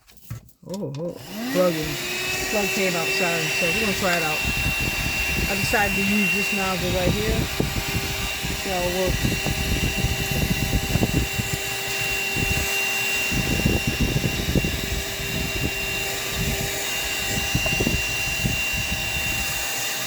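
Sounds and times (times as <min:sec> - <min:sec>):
handheld vacuum whining: 0:00.8 - 0:20.0.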